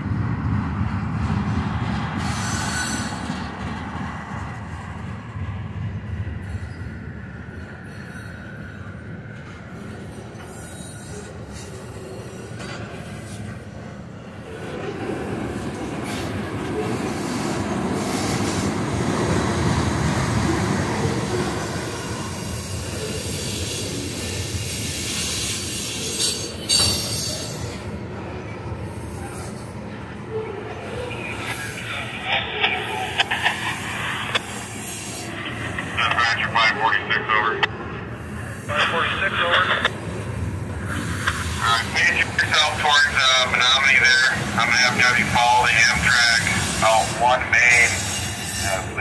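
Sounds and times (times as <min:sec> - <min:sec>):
train wheels rumbling over rails: 0:00.0 - 0:49.0.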